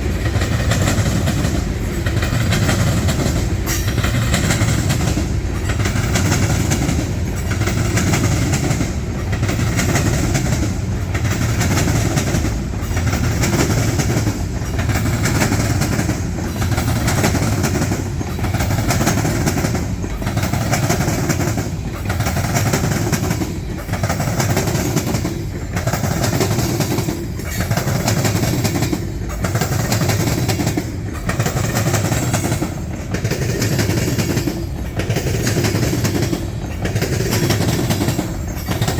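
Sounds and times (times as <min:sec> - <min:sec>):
train wheels on rail: 0:00.0 - 0:38.9.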